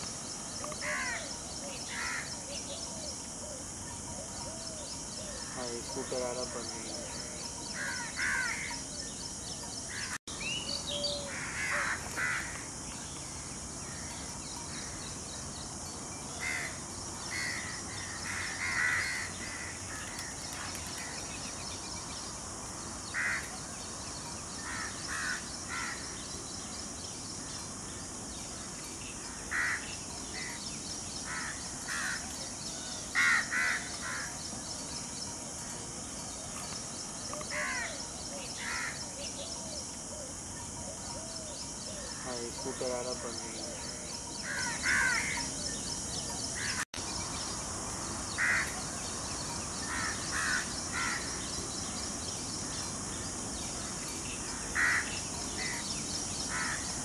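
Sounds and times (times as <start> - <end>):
steady high hiss: 0.0 - 57.0
wild birds calling: 0.0 - 57.0.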